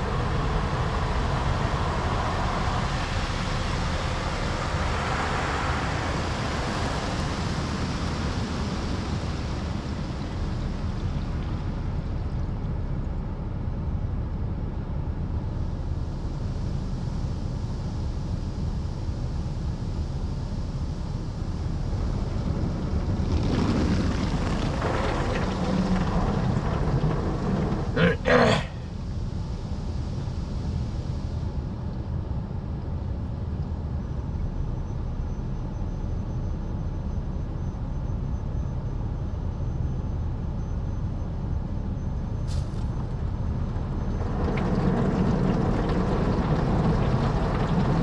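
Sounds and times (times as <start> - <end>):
low machinery rumble: 0.0 - 48.0.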